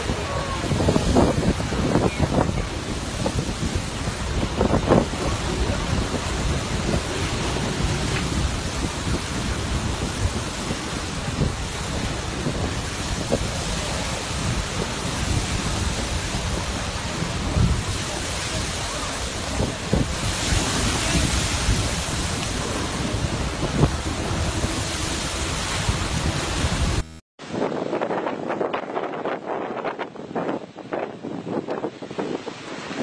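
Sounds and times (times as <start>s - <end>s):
hiss of boiling seawater and steam: 0.0s - 28.2s
surf: 0.0s - 33.0s
wind buffeting microphone: 0.0s - 33.0s.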